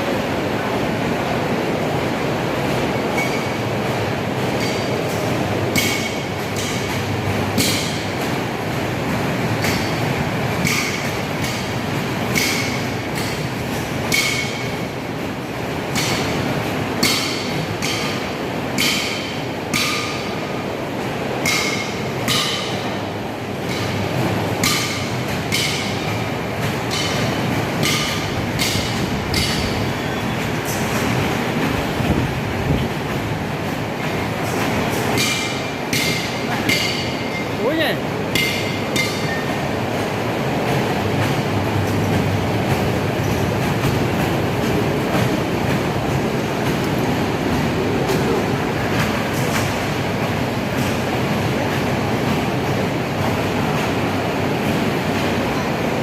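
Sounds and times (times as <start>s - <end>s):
ride-on train rumbling on track: 0.0s - 56.0s.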